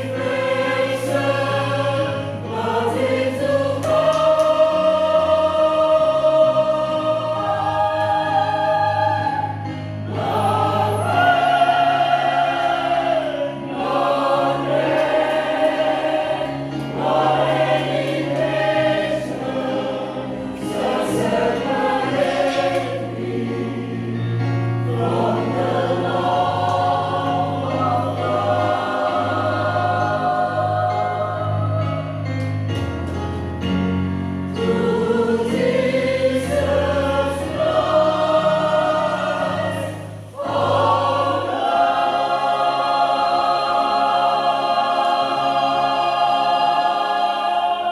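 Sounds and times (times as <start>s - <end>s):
choir singing in harmony: 0.0s - 47.9s.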